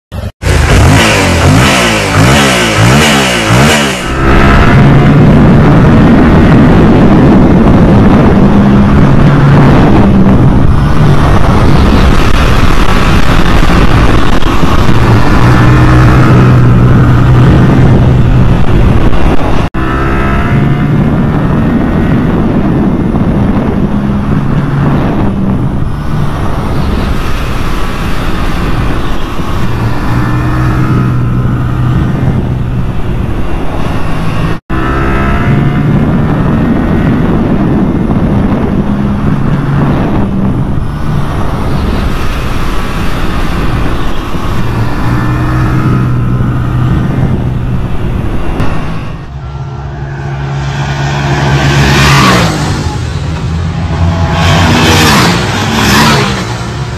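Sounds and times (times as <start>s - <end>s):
motorcycle engine revving: 0.1s - 56.9s.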